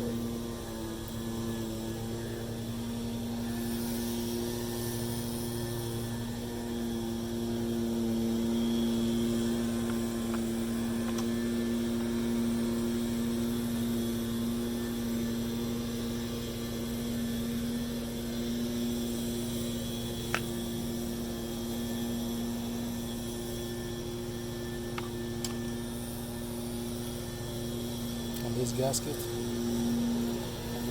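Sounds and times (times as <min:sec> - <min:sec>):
steady mechanical hum: 0:00.0 - 0:30.9.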